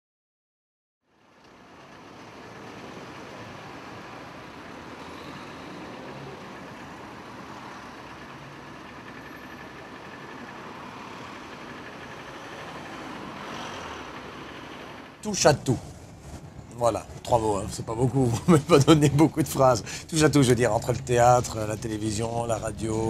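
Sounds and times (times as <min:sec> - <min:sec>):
bus engine and road rumble: 0:01.1 - 0:23.0.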